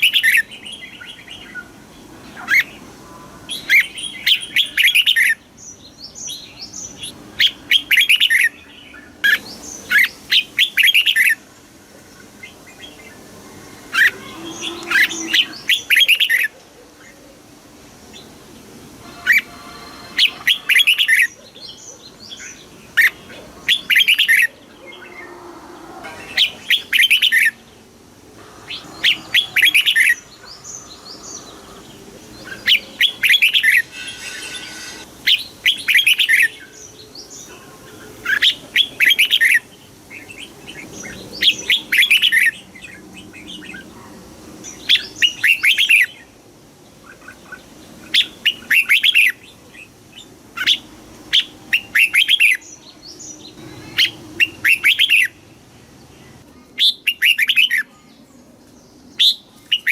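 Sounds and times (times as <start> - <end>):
bird singing warbled phrases: 0.0 - 11.5, 12.1 - 17.4, 19.0 - 59.9.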